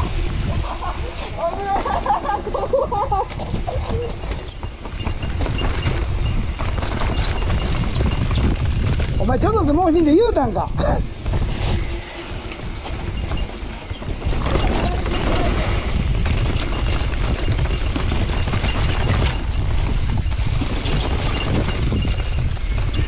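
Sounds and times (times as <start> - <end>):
tyres running over dirt: 0.0 - 23.0
wind buffeting microphone: 0.0 - 23.0
bike knocks and rattles: 1.7 - 11.9, 12.6 - 23.0.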